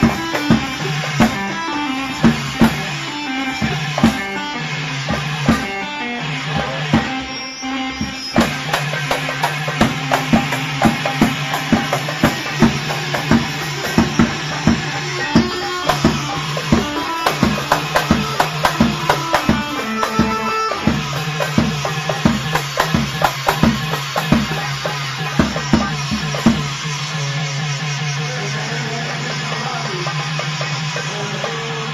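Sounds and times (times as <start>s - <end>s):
live band playing party music: 0.0s - 31.9s
steady drum beat: 0.0s - 31.9s.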